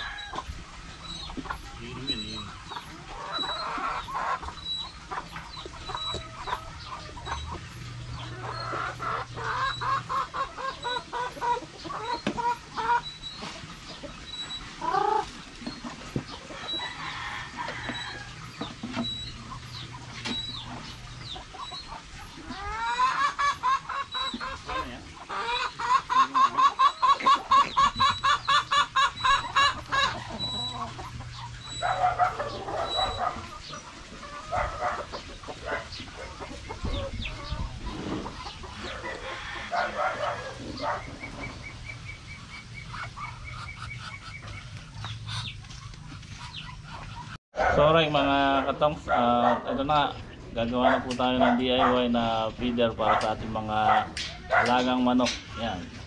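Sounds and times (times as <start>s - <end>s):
poultry clucking: 0.0s - 56.0s.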